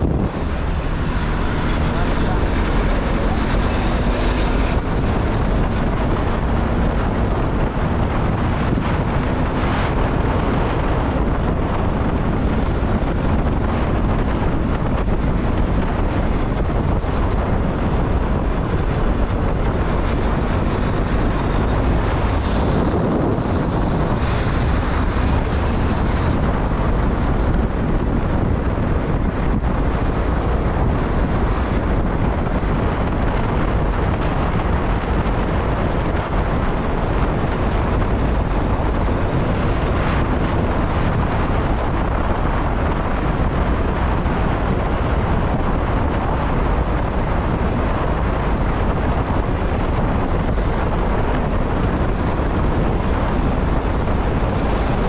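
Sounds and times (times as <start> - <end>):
vehicle rumbling on road: 0.0 - 55.0
wind buffeting microphone: 0.0 - 55.0.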